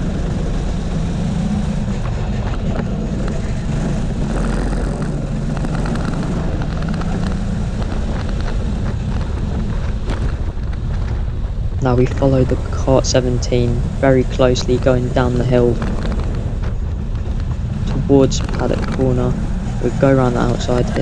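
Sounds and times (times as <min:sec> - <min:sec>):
go-kart engine racing: 0:00.0 - 0:21.0.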